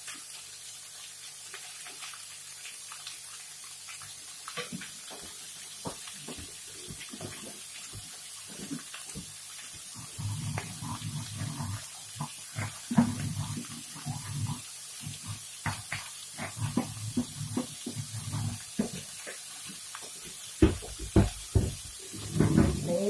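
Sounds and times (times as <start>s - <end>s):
food frying in a wok: 0.0s - 23.0s.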